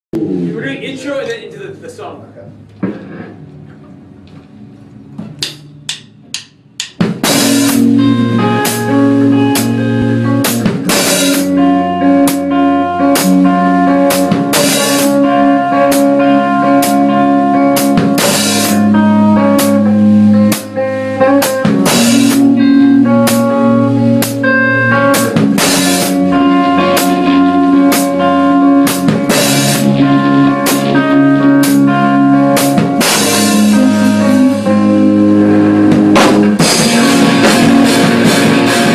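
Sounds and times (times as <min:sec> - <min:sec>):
rock band playing: 0:00.2 - 0:38.9.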